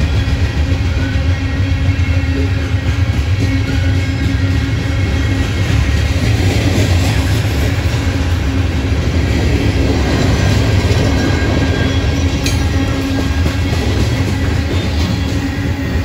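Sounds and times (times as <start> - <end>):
freight cars rumbling on rails: 0.0 - 16.0.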